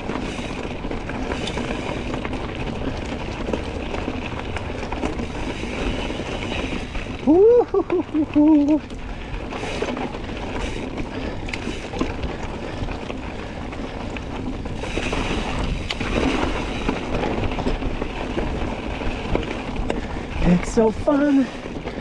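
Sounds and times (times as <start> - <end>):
bike clicks and rattles: 0.0 - 22.0
bike tyres on rocky trail: 0.0 - 22.0.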